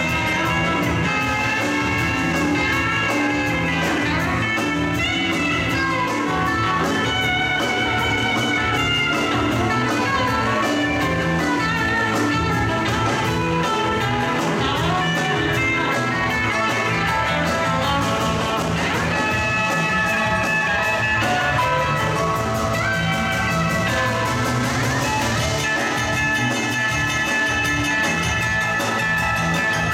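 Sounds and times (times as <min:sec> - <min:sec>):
drum kit beat: 0:00.0 - 0:29.9
electric guitars playing lead lines: 0:00.0 - 0:29.9.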